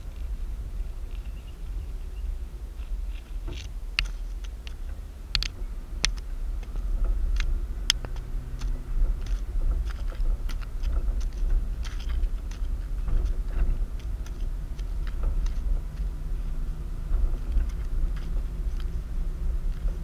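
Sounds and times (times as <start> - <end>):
engine and road rumble: 0.0 - 20.0
sharp clicks and ticks: 3.5 - 20.0.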